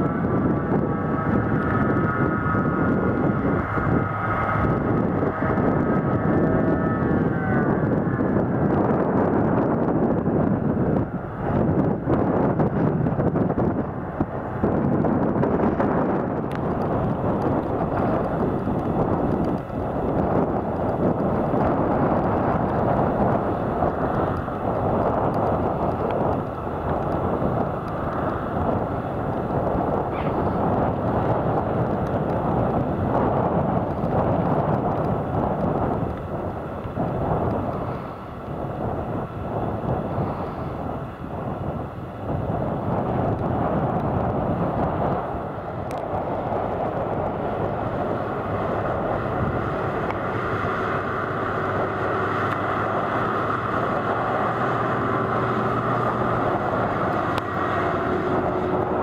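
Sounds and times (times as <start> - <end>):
deep engine rumble: 0.0 - 59.0
harvester high whine: 0.0 - 59.0.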